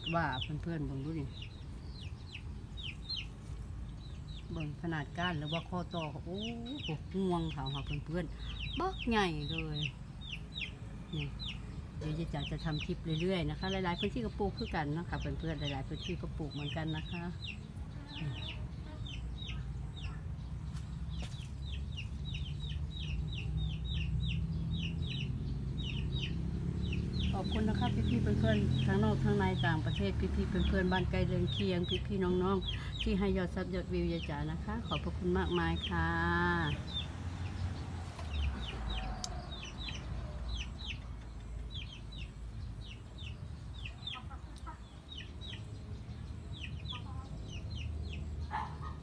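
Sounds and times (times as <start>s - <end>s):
chicks peeping: 0.0s - 49.0s.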